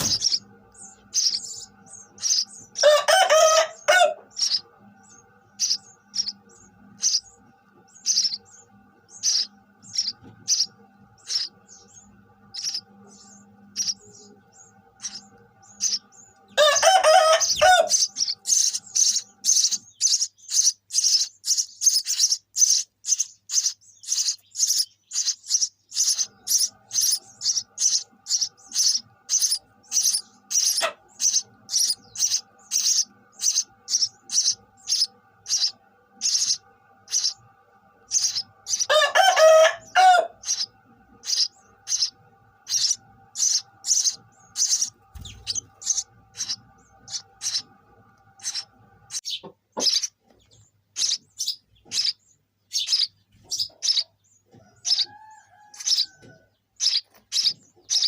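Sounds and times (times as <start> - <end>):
harsh bird calling burst: 0.0 - 50.2, 50.9 - 54.1, 56.8 - 58.0
sparrow chirping: 0.0 - 58.0.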